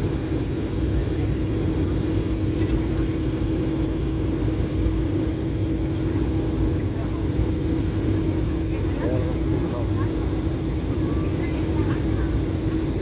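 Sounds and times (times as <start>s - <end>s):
jet airliner rumble: 0.0s - 13.0s.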